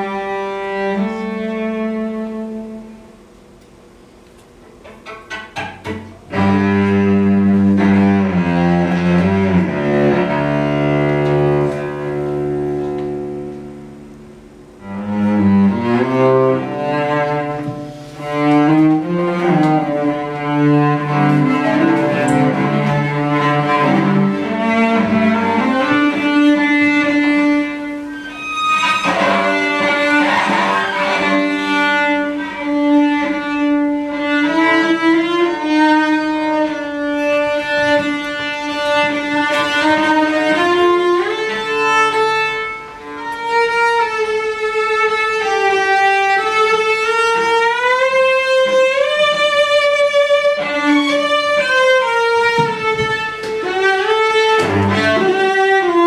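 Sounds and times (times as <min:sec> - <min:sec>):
solo cello bowed: 0:00.0 - 0:03.3, 0:05.7 - 0:56.0.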